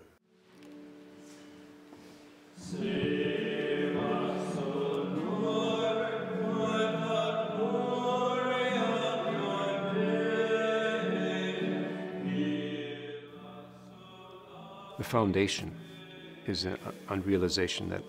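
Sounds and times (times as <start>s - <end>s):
men's choir chanting: 2.6s - 17.4s.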